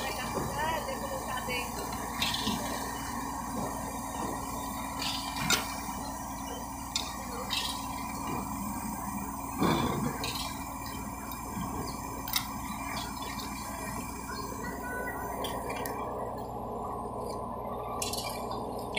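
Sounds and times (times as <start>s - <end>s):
heavy machinery droning: 0.0s - 18.9s.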